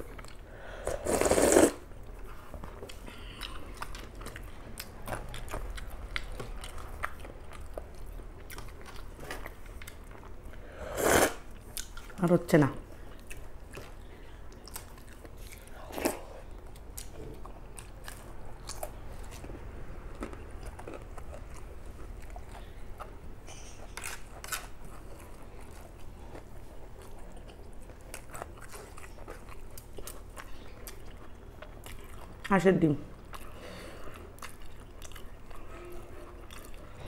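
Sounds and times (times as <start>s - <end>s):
chewing and crunching food: 0.0s - 10.6s, 11.5s - 12.3s, 12.9s - 37.0s.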